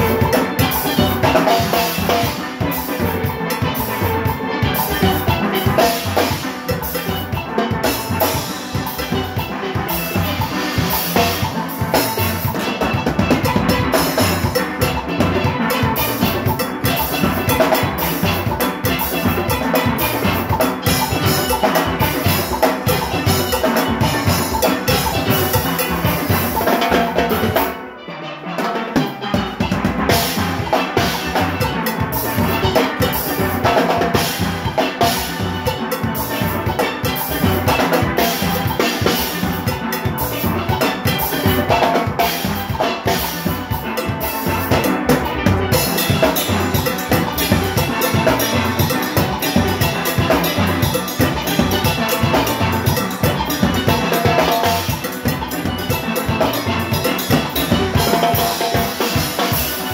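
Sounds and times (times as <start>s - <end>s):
drum kit and percussion: 0.0s - 59.9s
steel pans playing melody: 0.0s - 59.9s.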